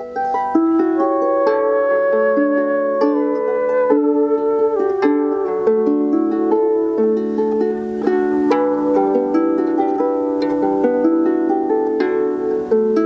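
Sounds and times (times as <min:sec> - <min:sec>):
harp being plucked: 0:00.0 - 0:13.0.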